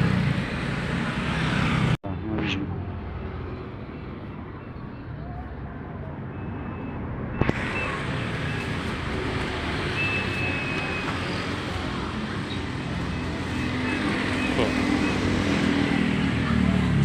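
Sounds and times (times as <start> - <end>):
motor vehicles running: 0.0 - 17.0.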